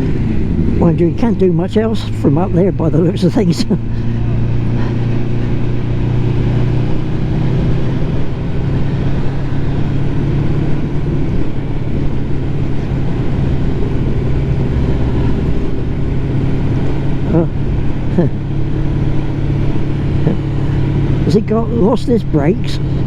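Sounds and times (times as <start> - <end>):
motorcycle engine droning: 0.0 - 23.0.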